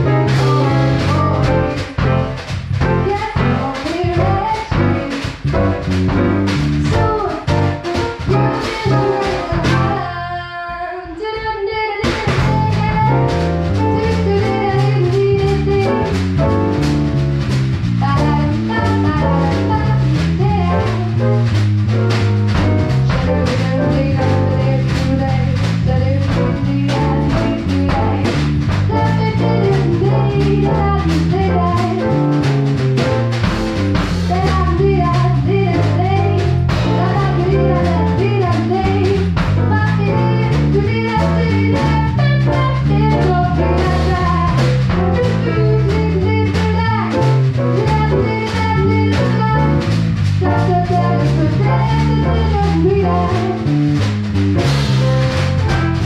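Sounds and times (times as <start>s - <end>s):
woman singing: 0.0s - 5.3s, 6.8s - 16.2s, 18.0s - 21.3s, 23.1s - 32.4s, 34.3s - 49.8s, 50.4s - 53.7s
grand piano: 0.0s - 10.5s, 12.0s - 56.0s
drums keeping a beat: 0.0s - 56.0s.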